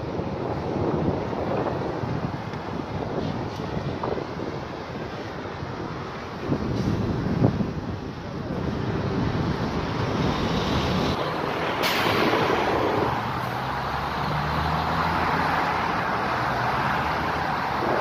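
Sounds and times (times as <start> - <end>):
cars and trucks passing: 0.0 - 18.0
wind on microphone: 0.0 - 18.0.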